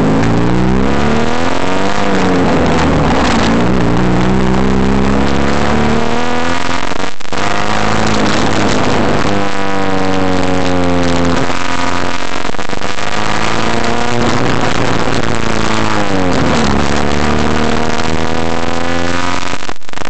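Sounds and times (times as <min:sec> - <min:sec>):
car engine accelerating: 0:00.0 - 0:19.6.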